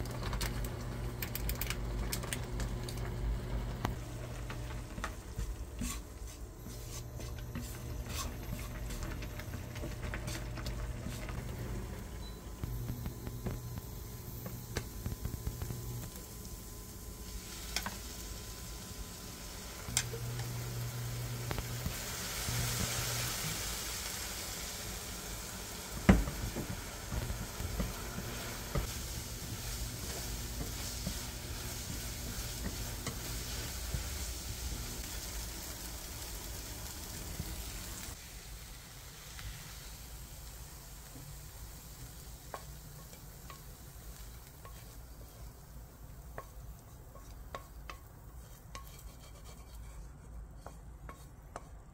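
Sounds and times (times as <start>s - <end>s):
food sizzling in a frying pan: 0.0s - 49.8s.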